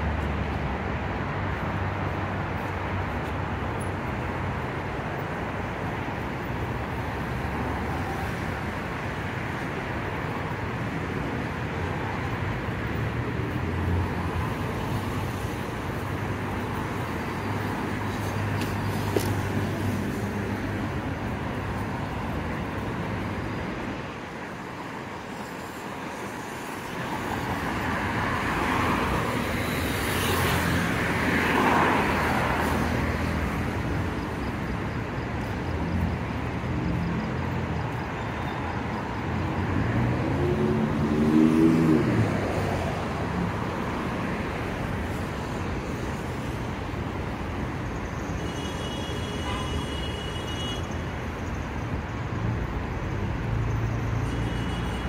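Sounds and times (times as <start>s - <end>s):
road traffic hum: 0.0s - 55.0s.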